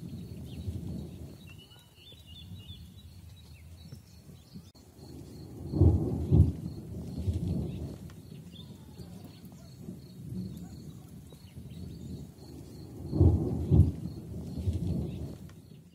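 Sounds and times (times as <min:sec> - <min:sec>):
bird chirps: 0:00.0 - 0:15.9
thunder rumbling: 0:00.0 - 0:15.9.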